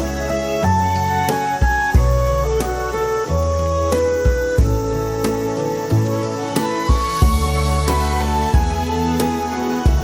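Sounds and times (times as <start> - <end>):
flute-like melody: 0.0 - 10.0.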